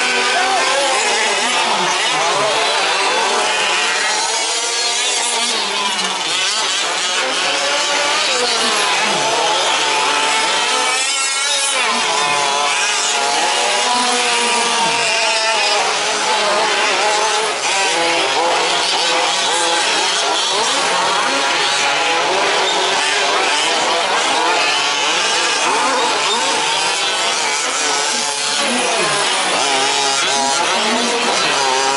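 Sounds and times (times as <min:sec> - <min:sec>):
small two-stroke engines racing: 0:00.0 - 0:31.9.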